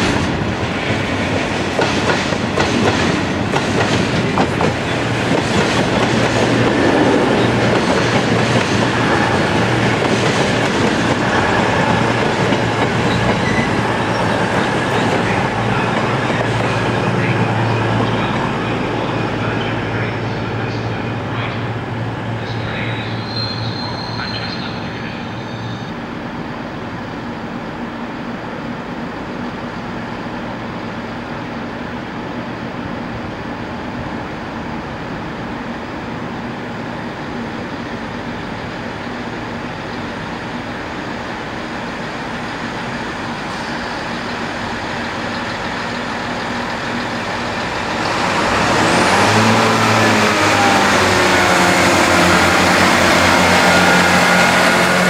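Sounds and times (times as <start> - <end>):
train engine hum: 0.0 - 55.0
train rushing noise: 0.0 - 55.0.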